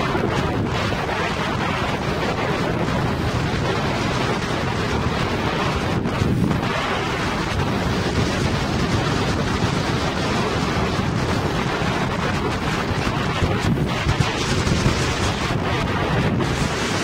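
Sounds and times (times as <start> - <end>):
boat noise: 0.0 - 17.0
water rushing: 0.0 - 17.0
wind buffeting microphone: 0.0 - 17.0.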